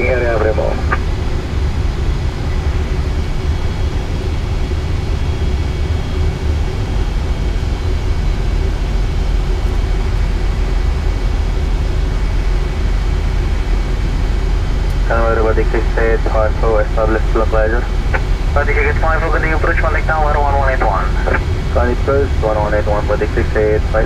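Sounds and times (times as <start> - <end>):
aircraft cockpit rumble: 0.0 - 24.0.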